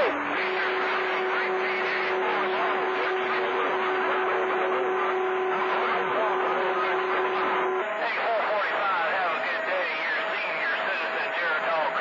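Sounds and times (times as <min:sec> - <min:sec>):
radio static hiss: 0:00.0 - 0:12.0
steady radio whistle: 0:00.0 - 0:12.0.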